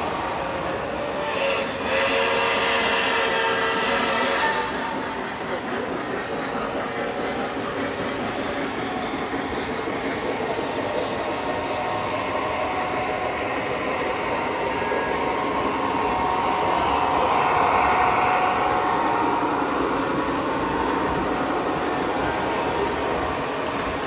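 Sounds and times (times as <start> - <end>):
model trains rumbling: 0.0 - 24.0.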